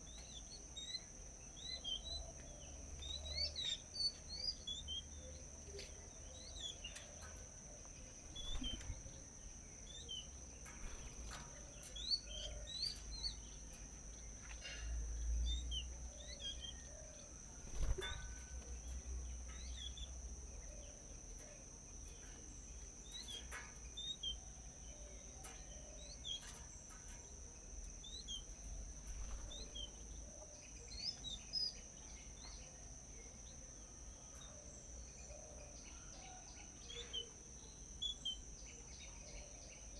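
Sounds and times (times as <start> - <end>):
high insect drone: 0.0 - 39.9
small birds chirping: 0.0 - 39.9.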